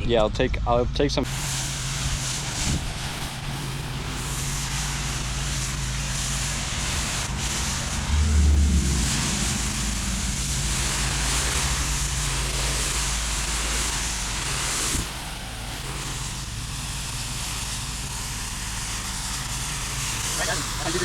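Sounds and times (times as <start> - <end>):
hiss: 1.2 - 21.0
engine humming: 1.4 - 19.4.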